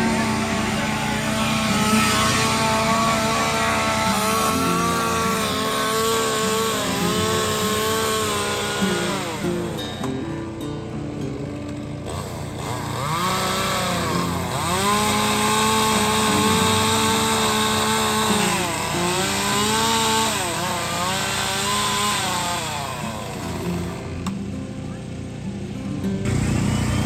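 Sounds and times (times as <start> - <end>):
chainsaw carving wood: 0.0 - 25.0, 26.2 - 27.0.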